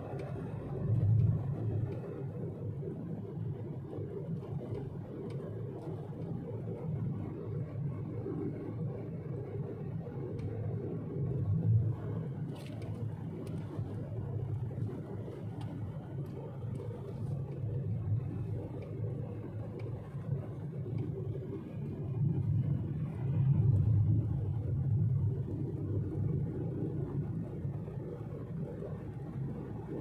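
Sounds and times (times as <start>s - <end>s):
car cabin engine and tyre rumble: 0.0s - 30.0s.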